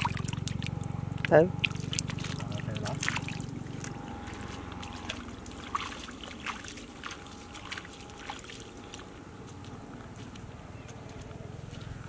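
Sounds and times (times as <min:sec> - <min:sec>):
bare feet squelching through mud: 0:00.0 - 0:12.0.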